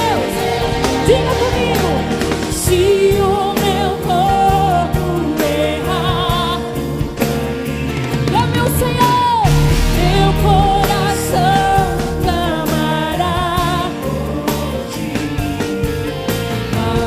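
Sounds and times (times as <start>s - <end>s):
woman singing: 0.0s - 7.3s, 8.3s - 15.9s, 16.7s - 17.0s
band playing gospel music: 0.0s - 17.0s.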